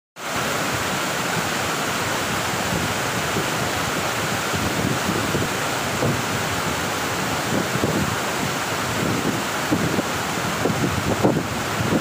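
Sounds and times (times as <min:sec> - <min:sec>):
waterfall rushing: 0:00.2 - 0:12.0.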